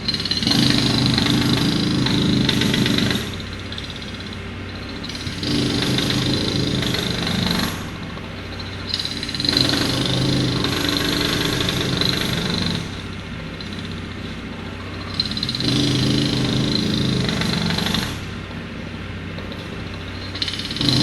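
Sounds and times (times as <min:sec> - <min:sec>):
powered breaker hammering: 0:00.0 - 0:21.0
steady engine hum: 0:00.0 - 0:21.0.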